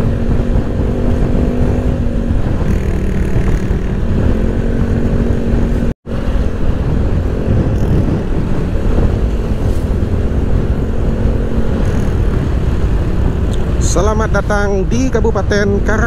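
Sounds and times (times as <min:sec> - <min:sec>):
scooter engine cruising: 0:00.0 - 0:14.1
wind rumble on microphone: 0:00.0 - 0:16.0.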